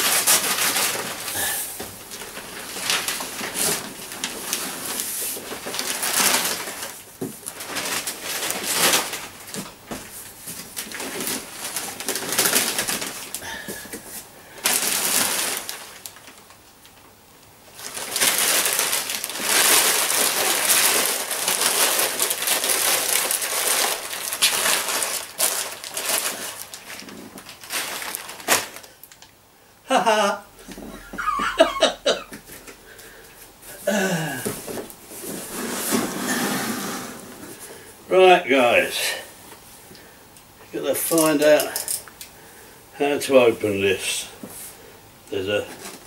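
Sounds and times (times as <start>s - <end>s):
wrapping paper rustling and crackling: 0.0s - 29.4s, 30.6s - 37.8s, 40.7s - 42.2s, 43.2s - 46.0s.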